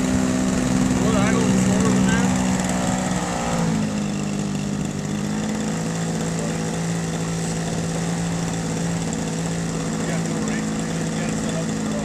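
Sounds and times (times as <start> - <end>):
model airplane engine idling: 0.0 - 12.0.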